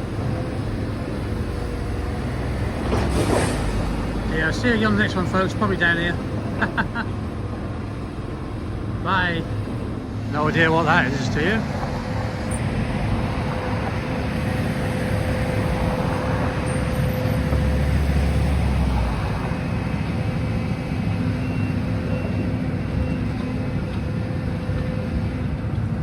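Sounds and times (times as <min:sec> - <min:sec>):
engine running: 0:00.0 - 0:26.0
street noise: 0:00.0 - 0:26.0.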